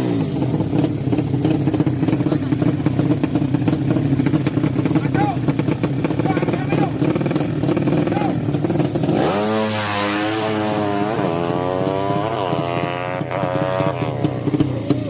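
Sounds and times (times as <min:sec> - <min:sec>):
motorcycle accelerating hard: 0:00.0 - 0:15.0
motorcycle engines idling: 0:00.0 - 0:15.0.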